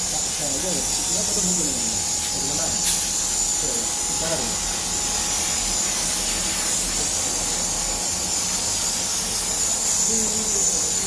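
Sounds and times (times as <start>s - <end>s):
water jet spraying: 0.0s - 11.0s.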